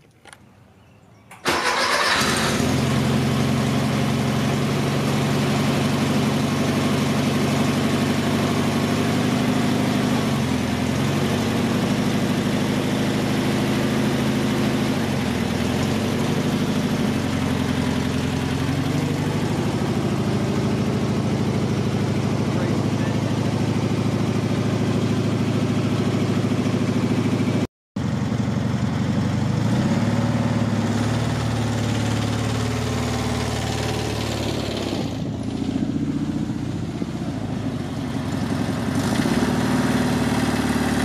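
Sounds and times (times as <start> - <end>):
car engine starting and idling: 1.2 - 41.0.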